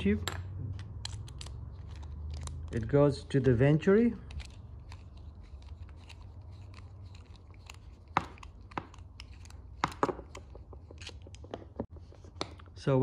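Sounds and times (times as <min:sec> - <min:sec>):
screwdriver scraping metal: 0:00.8 - 0:11.6.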